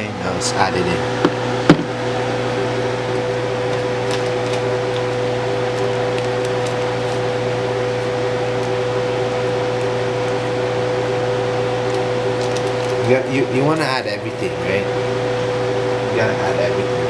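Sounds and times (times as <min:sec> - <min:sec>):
appliance motor humming: 0:00.0 - 0:17.0.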